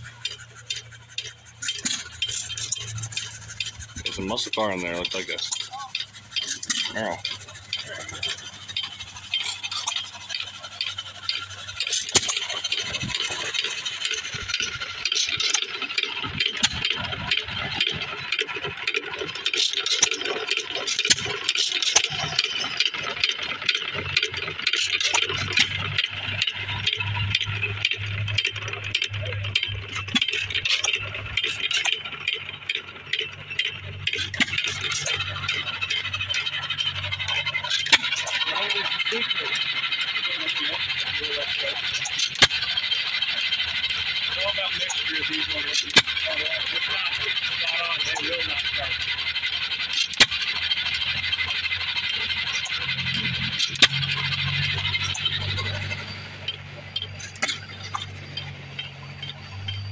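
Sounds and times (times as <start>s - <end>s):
small engine clattering: 0.0s - 59.9s
steady low hum: 0.0s - 59.9s.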